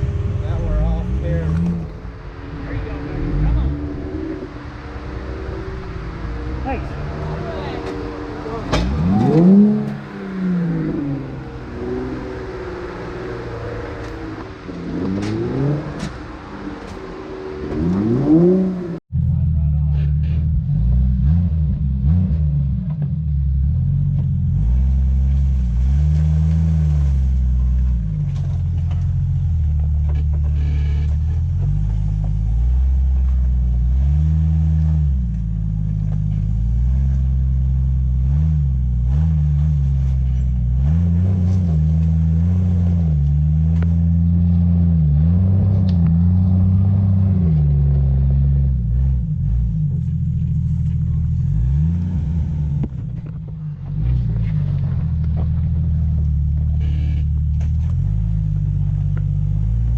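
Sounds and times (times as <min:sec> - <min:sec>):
engine revving under load: 0:00.0 - 0:59.9.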